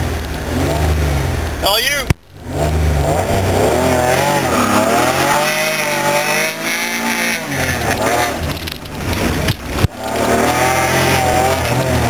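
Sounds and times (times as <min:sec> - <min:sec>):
car engine revving: 0:00.0 - 0:12.0
tires squealing: 0:01.6 - 0:12.0.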